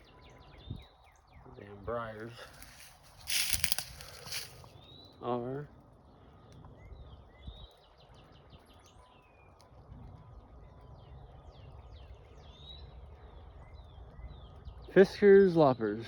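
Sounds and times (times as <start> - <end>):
faint birdsong: 0.0 - 15.9.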